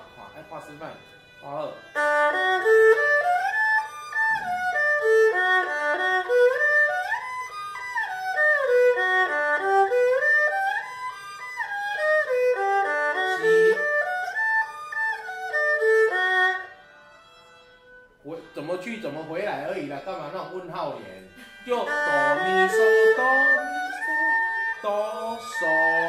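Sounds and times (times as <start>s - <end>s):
bowed string arpeggios: 0.0s - 26.0s.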